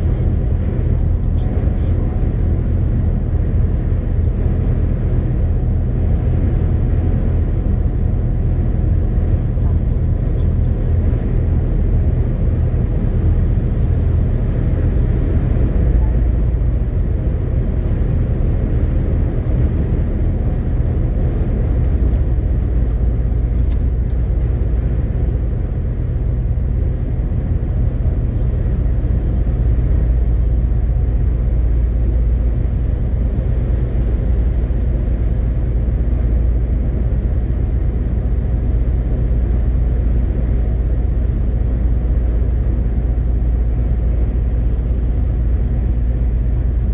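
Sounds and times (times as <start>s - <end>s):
road noise: 0.0s - 46.9s
truck diesel engine droning: 0.0s - 46.9s.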